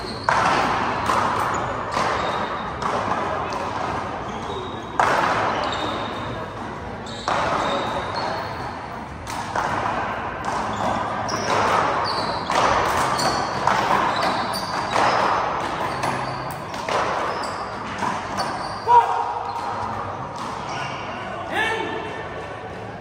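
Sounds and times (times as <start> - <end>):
sneaker squeaks on court: 0.0 - 9.1, 10.4 - 21.1.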